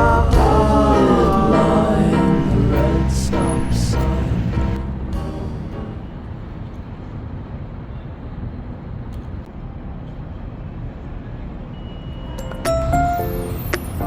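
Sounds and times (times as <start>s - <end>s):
low rumble of city traffic: 0.0s - 14.0s.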